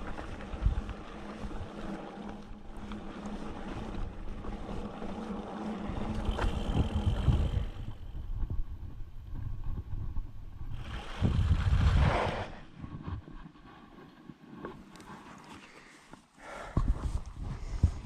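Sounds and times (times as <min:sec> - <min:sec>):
wind rumbling on microphone: 0:00.0 - 0:15.0, 0:16.7 - 0:18.0
bike rolling over trail: 0:00.0 - 0:16.0.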